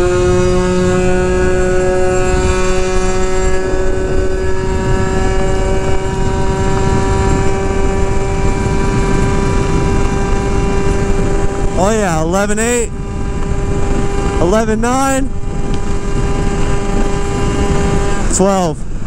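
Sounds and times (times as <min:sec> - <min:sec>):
two-stroke scooter engine revving high: 0:00.0 - 0:19.0
wind rushing on microphone: 0:00.0 - 0:19.0.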